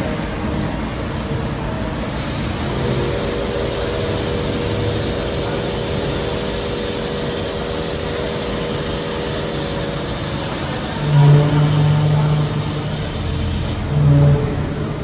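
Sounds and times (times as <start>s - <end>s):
coolant spraying hiss: 1.0s - 14.0s
lathe whine: 1.6s - 15.0s.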